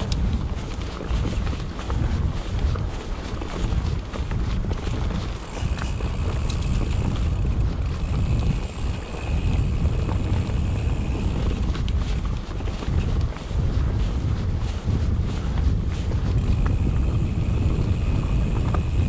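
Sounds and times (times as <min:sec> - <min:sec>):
bike rattling over rocks: 0:00.0 - 0:19.0
wind buffeting microphone: 0:00.0 - 0:19.0.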